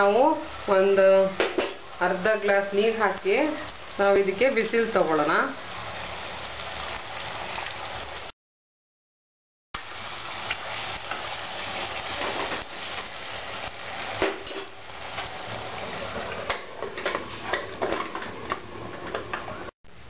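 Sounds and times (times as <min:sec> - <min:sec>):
steady sizzle: 0:00.0 - 0:08.4, 0:09.8 - 0:20.0.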